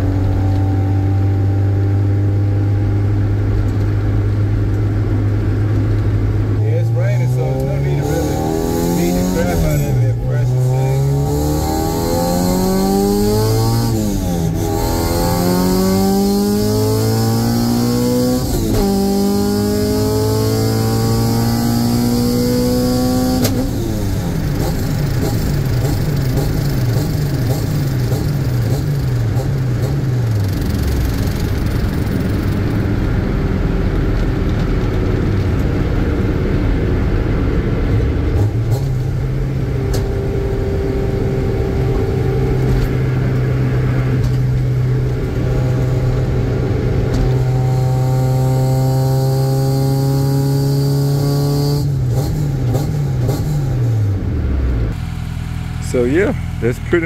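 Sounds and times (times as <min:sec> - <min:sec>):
car engine revving: 0:00.0 - 0:57.0
road rumble: 0:00.0 - 0:57.0.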